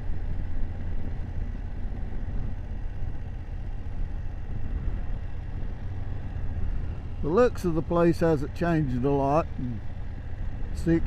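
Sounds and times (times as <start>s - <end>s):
motorcycle engine rumbling: 0.0s - 11.0s
road and wind noise: 0.0s - 11.0s.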